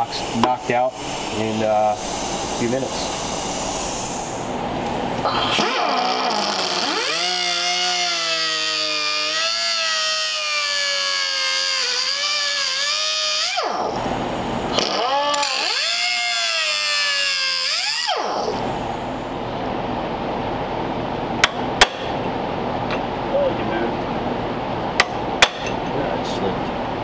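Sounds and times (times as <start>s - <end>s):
air cutoff tool whining: 0.0s - 27.0s.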